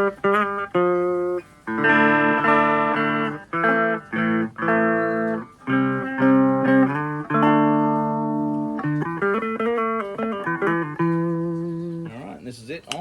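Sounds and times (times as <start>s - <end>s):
clean electric guitar chords: 0.0s - 12.1s.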